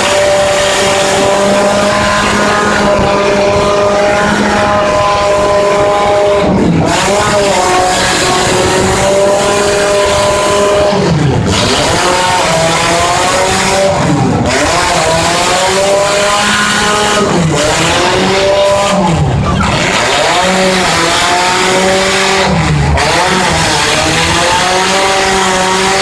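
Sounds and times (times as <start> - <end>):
car engines revving hard: 0.0 - 26.0
constant loud din: 0.0 - 26.0.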